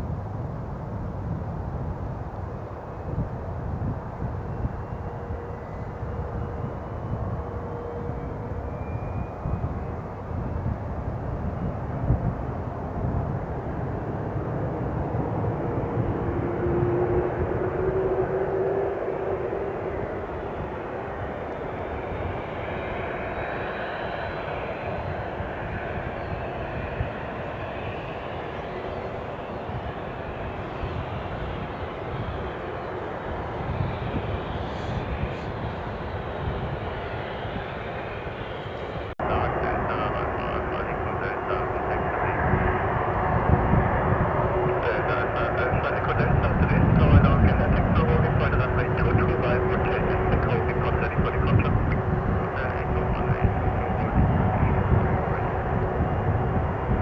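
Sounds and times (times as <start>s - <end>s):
distant jet engines rumbling: 0.0s - 57.0s
steady engine tone: 2.7s - 57.0s.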